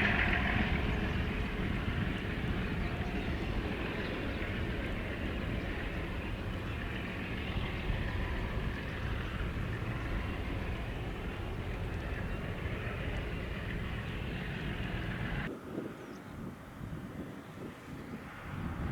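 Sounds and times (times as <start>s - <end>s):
train wagons rumbling on rails: 0.0s - 15.5s.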